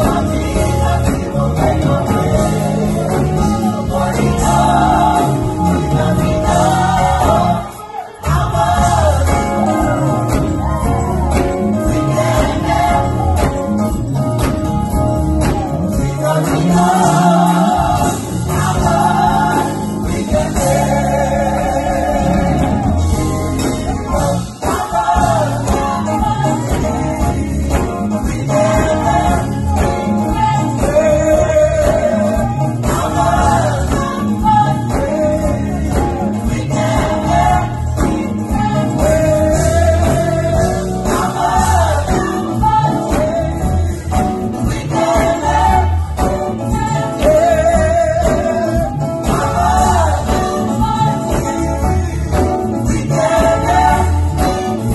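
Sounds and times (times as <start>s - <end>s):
bass-heavy accompaniment: 0.0s - 54.9s
gospel choir singing: 0.0s - 54.9s.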